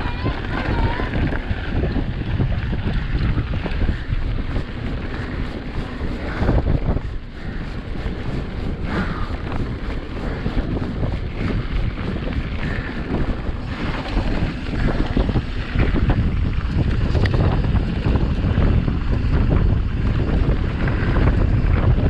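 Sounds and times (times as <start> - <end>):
bike rattling: 0.0 - 22.0
wind buffeting microphone: 0.0 - 22.0.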